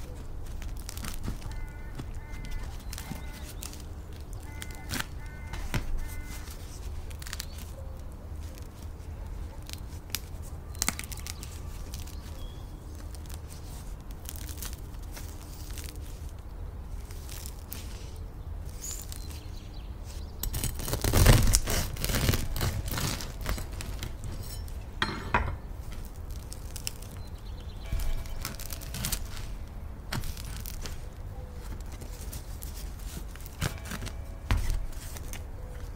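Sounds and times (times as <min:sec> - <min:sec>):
bread crust crackling and crunching: 0:00.0 - 0:35.9.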